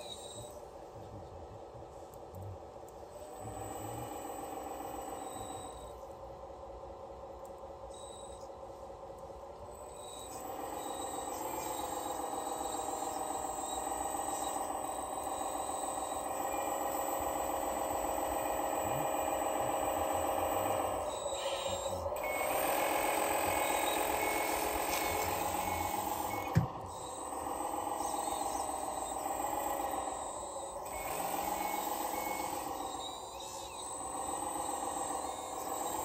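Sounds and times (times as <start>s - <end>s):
toy wheel loader whining: 0.0s - 0.7s, 3.1s - 6.2s, 9.7s - 36.0s.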